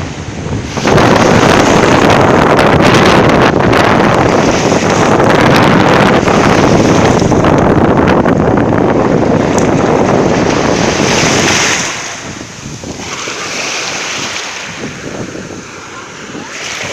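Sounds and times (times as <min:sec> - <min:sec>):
surf washing onto shore: 0:00.0 - 0:16.9
wind buffeting microphone: 0:00.0 - 0:16.9.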